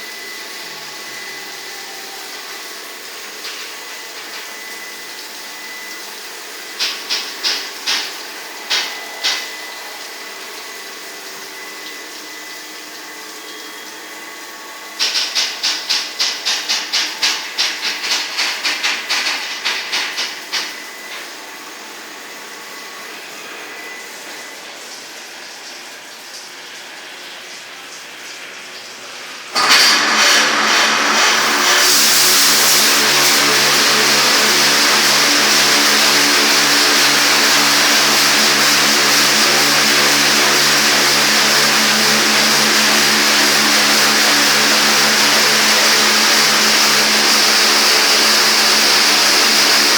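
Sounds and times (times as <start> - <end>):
car wash motor hum with hiss: 0.0 - 49.9.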